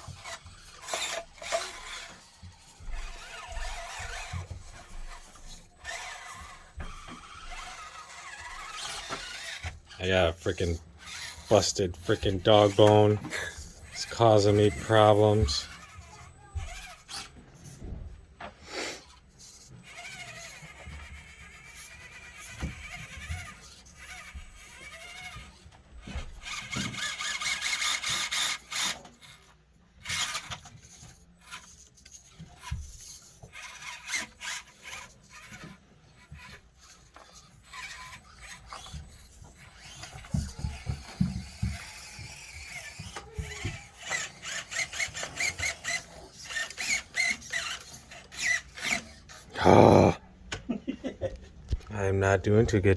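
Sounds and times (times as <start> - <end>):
rapid clicking from drivetrain: 0.0 - 17.3, 19.4 - 49.4
small electric motor whining: 0.0 - 50.1.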